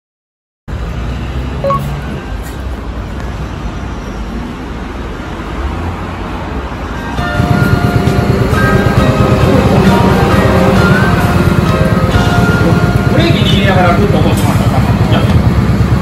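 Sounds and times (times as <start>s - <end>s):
road traffic rumble: 0.7s - 16.0s.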